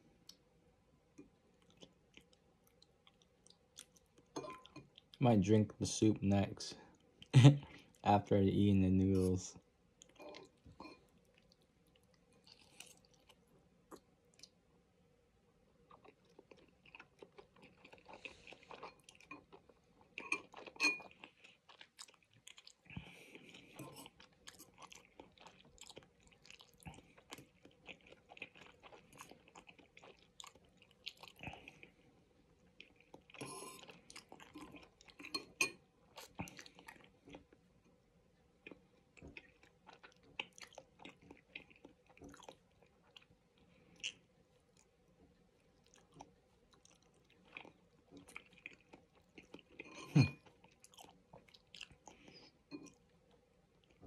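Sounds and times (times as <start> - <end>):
chewing with wet smacks: 1.2 - 5.2, 10.0 - 14.6, 15.8 - 37.9, 38.5 - 54.0.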